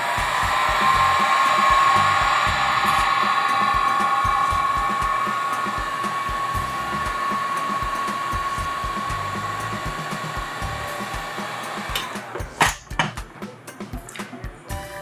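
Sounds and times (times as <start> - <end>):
heat gun blowing with high whine: 0.0 - 12.4.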